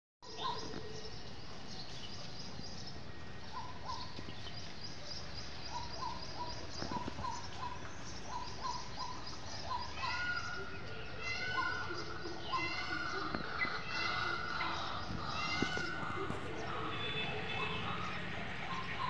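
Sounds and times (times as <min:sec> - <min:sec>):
low outdoor background noise: 0:00.2 - 0:19.0
small birds chirping: 0:00.2 - 0:19.0.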